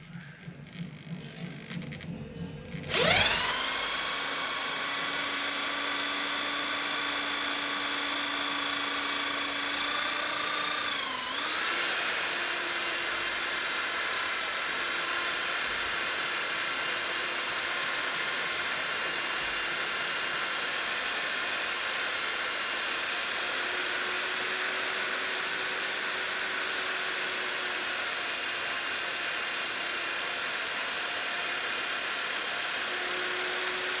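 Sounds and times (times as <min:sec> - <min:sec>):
electric drill whining: 0:00.0 - 0:02.1, 0:02.7 - 0:34.0.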